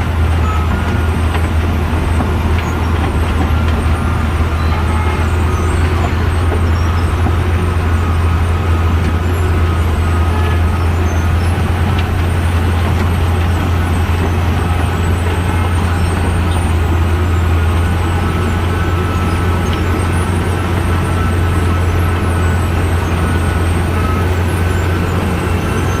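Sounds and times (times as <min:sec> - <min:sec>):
milling machine engine drone: 0:00.0 - 0:26.0.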